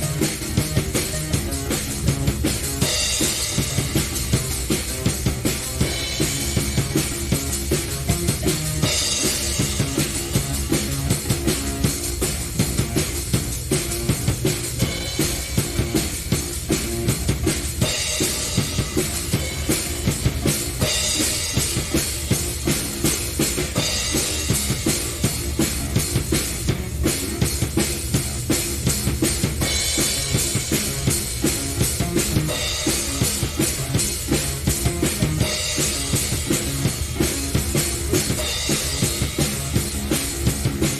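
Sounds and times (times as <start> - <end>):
drum kit beat: 0.0 - 40.9.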